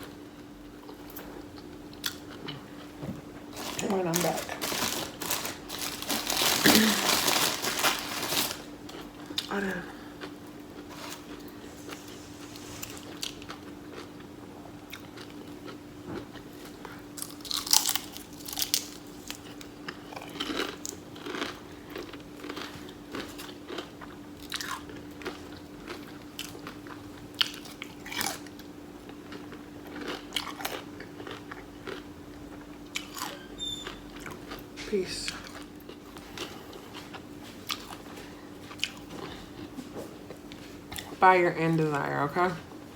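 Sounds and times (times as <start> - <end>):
faint steady hum: 0.0 - 42.9
person chewing and biting food: 4.6 - 14.3, 14.9 - 34.7, 35.4 - 41.1.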